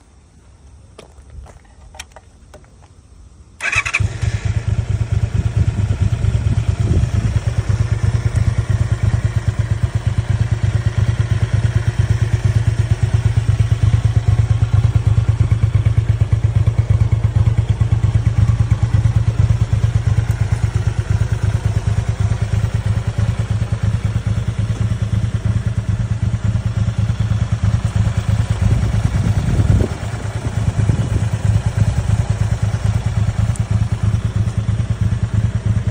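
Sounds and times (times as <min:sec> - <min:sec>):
motorcycle engine starting and idling: 0:01.0 - 0:35.9.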